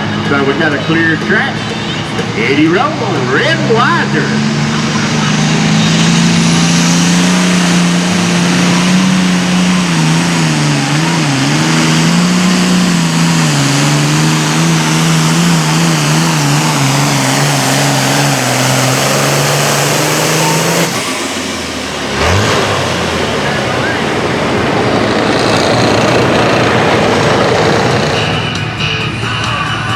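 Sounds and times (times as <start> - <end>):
diesel tractor engine droning: 0.0 - 29.9.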